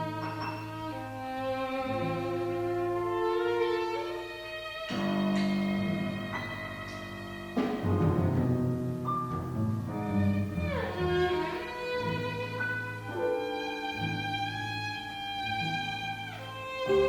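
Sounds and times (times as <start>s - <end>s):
bowed strings holding notes: 0.0s - 17.0s
low cello notes: 0.0s - 17.0s.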